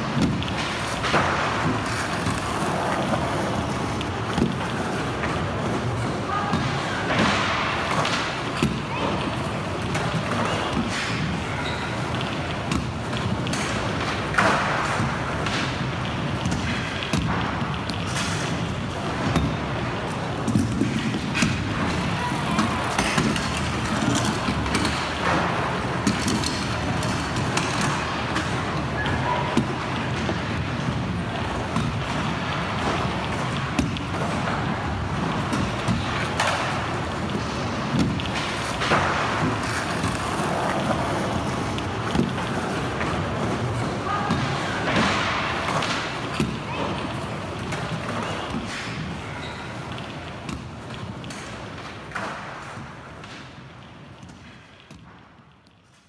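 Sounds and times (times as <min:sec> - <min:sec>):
wheels rolling on ramps: 0:00.0 - 0:54.9
skateboards clacking and landing: 0:00.0 - 0:56.0.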